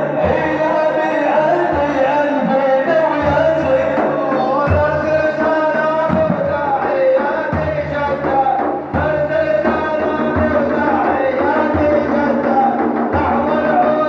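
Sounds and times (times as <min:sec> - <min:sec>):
deep drum beats: 0:00.0 - 0:14.0
man singing devotional song: 0:00.0 - 0:14.0.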